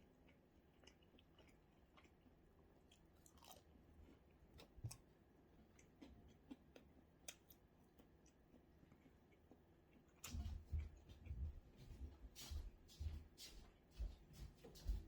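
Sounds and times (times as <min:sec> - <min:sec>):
faint chewing: 0:00.0 - 0:12.2.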